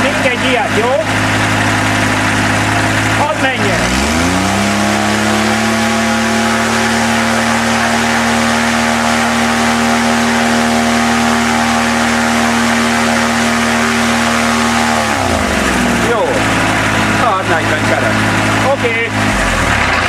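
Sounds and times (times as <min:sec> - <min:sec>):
engine driving propeller at full throttle: 0:00.0 - 0:20.0.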